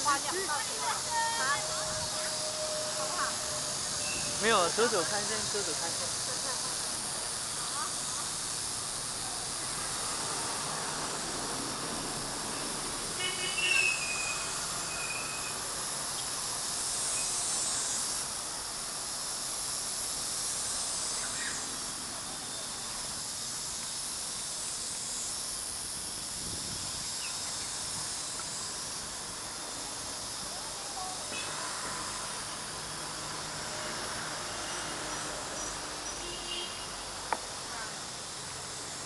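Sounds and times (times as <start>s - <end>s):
cicadas buzzing: 0.0s - 39.0s.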